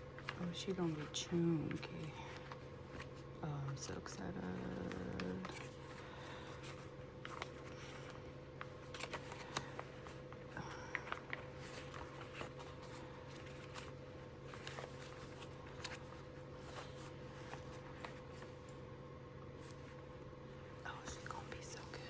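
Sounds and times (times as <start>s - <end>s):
paper rustling: 0.0s - 18.8s, 19.6s - 20.0s
steady low hum: 0.0s - 22.0s.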